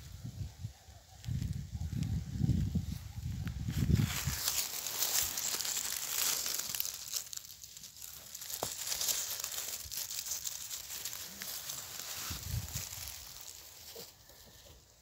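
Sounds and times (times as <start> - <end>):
dry grass and pine needles rustling: 0.0 - 15.0.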